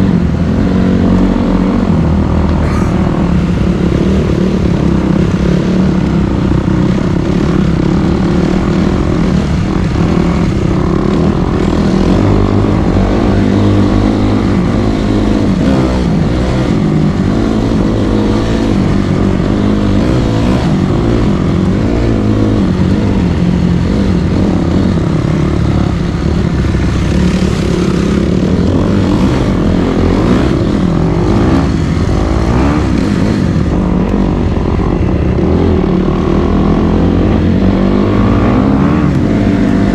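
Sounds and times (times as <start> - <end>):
dirt bike engine revving: 0.7 - 6.6, 7.2 - 39.9.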